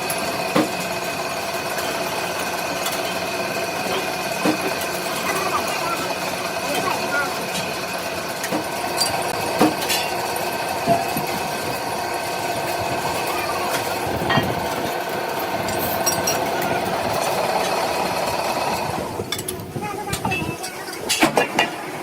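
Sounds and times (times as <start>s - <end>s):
machine running with a whine: 0.0s - 20.6s.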